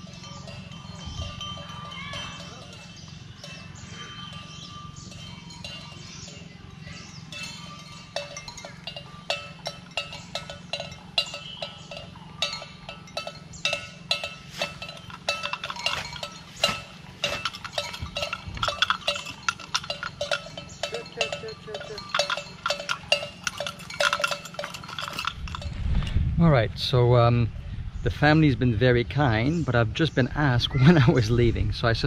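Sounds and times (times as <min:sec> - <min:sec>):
cow bell clanking: 0:00.0 - 0:25.8.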